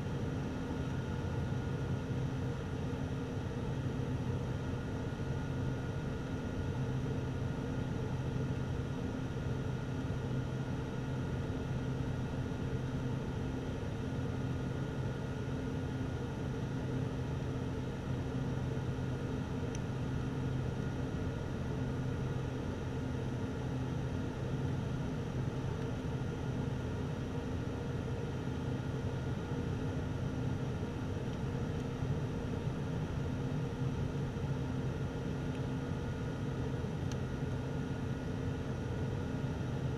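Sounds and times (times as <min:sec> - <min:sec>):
airplane engines droning in cabin: 0:00.0 - 0:39.9.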